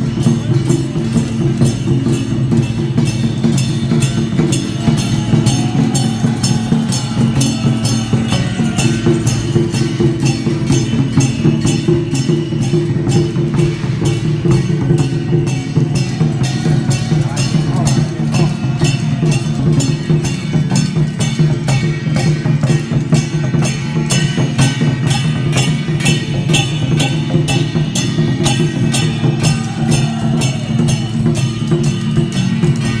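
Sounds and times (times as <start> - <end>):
percussion beat: 0.0 - 33.0.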